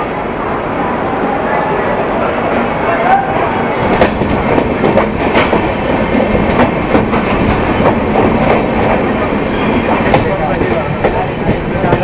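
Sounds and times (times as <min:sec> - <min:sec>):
train coach rumbling: 0:00.0 - 0:12.0.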